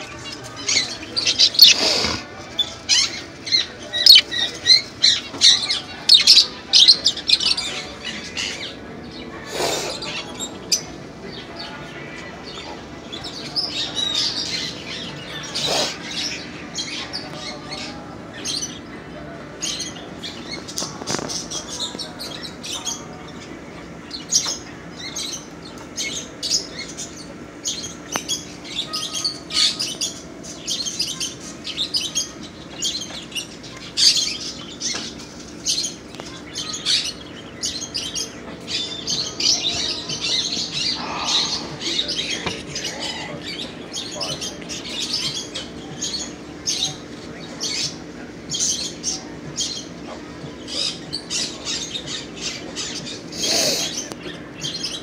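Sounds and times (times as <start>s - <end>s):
birds chirping and tweeting: 0.0s - 55.0s
steady low hum: 0.0s - 55.0s.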